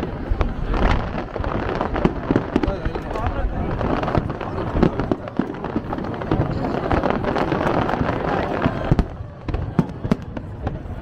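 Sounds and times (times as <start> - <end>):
fireworks pops and crackles: 0.0 - 11.0
heavy fireworks bangs: 0.0 - 11.0.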